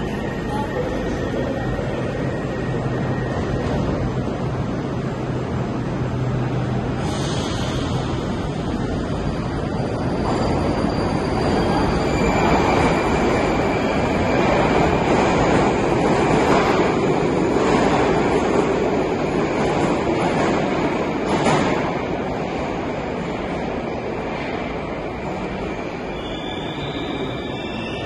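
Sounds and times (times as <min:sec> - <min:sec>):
metro train rumbling: 0:00.0 - 0:28.0.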